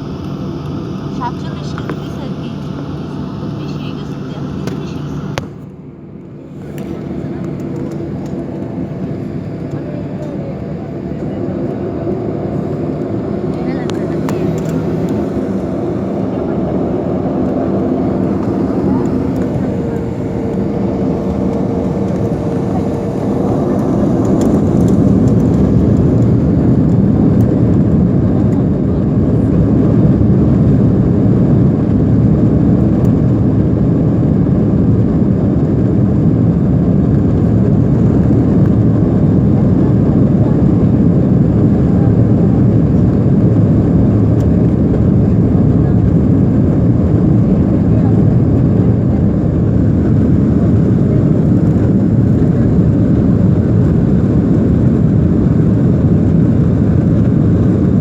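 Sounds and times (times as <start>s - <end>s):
airliner engines taking off: 0.0s - 58.0s.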